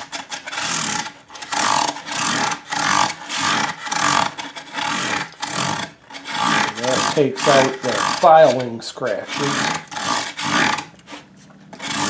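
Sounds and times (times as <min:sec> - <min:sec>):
sandpaper rasping on metal frets: 0:00.0 - 0:12.0.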